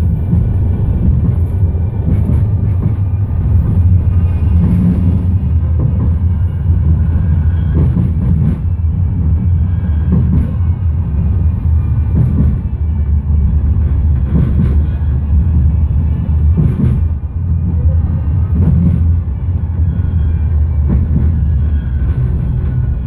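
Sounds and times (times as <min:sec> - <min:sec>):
tram wheel knocks: 0:00.0 - 0:11.4, 0:12.0 - 0:12.8, 0:14.0 - 0:19.3, 0:20.8 - 0:23.0
tram rumbling: 0:00.0 - 0:23.0.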